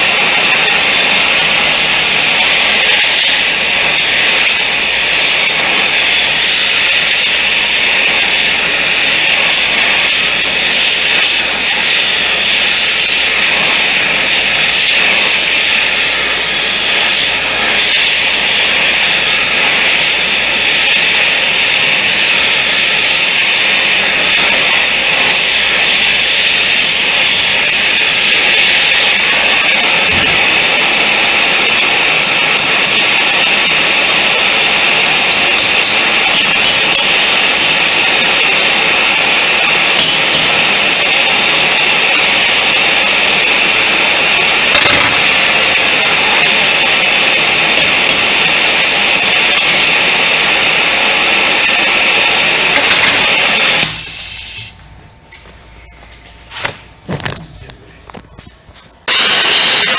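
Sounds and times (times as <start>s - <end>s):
forging equipment roaring: 0.0s - 54.4s.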